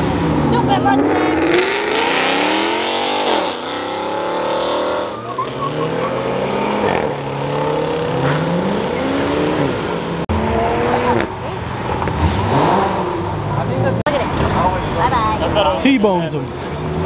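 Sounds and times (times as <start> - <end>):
car engine revving hard: 0.0 - 15.6.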